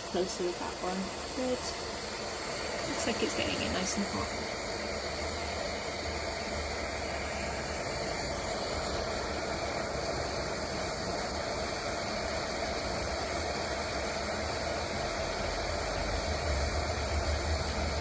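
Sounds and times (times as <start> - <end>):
torch burning with steady hiss: 0.0 - 18.0.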